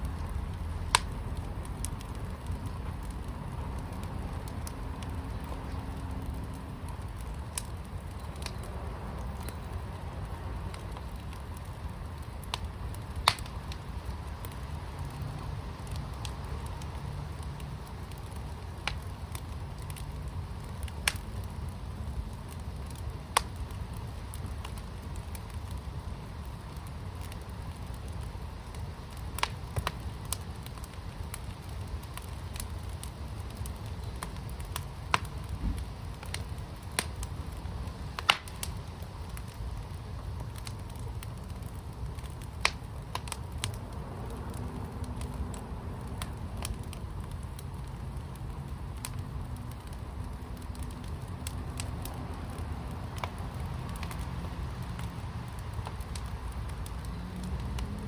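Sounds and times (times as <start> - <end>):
fire pit crackling and popping: 0.0 - 58.0.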